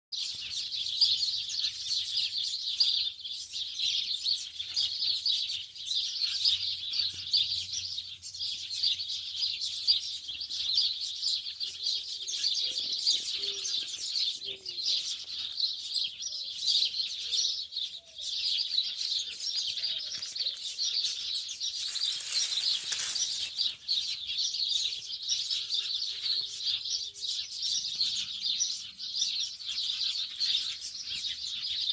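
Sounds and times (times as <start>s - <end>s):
small birds chirping: 0.1s - 31.9s
faint lower bird calls: 0.2s - 31.9s.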